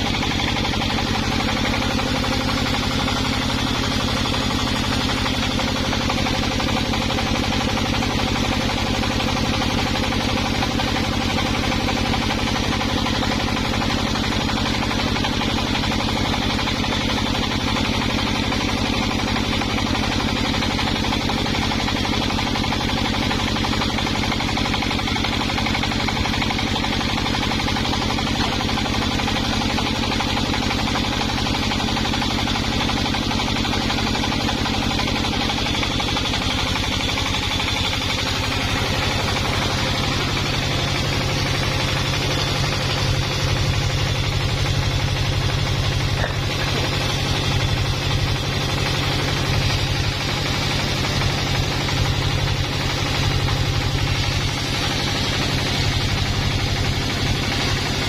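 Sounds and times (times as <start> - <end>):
chainsaw engine running: 0.0 - 58.0.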